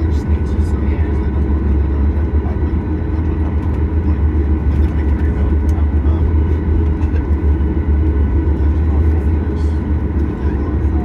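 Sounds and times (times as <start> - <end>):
airplane cabin rumble: 0.0 - 11.0
faint engine tones: 0.0 - 11.0.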